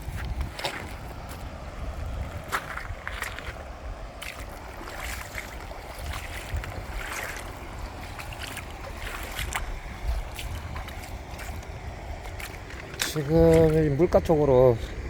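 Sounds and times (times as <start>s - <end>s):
footsteps crunching on gravel: 0.0s - 14.1s
wind rumble on microphone: 0.0s - 15.0s.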